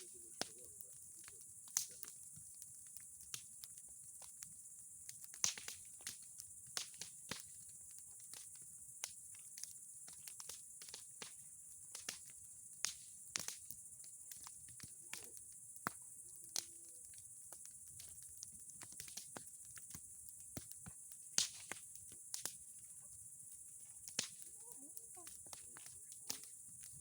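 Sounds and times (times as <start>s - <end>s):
fire crackling with pops and snaps: 0.0s - 27.0s.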